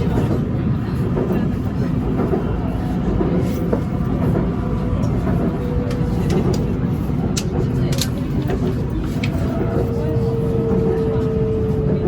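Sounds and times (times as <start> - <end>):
train carriage rumbling: 0.0 - 12.0.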